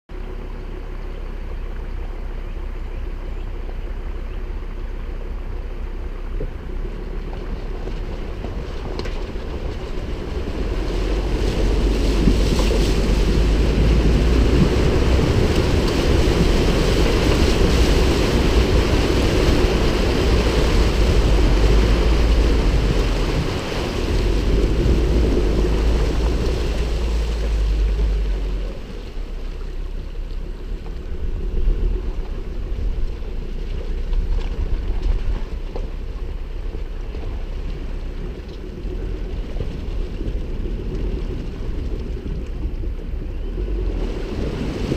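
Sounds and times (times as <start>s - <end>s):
truck engine rumble: 0.1s - 44.9s
water rushing and splashing: 6.3s - 44.9s.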